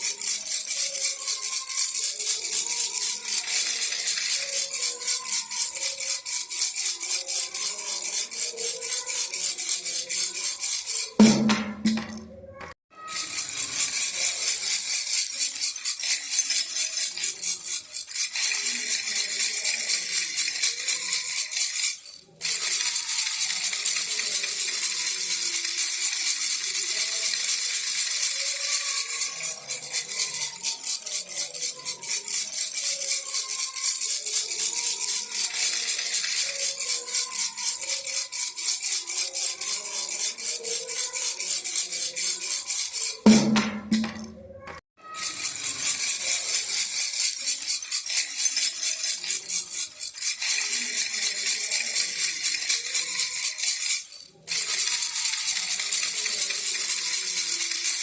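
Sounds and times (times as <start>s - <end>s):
baby rattle shaking: 0.0s - 58.0s.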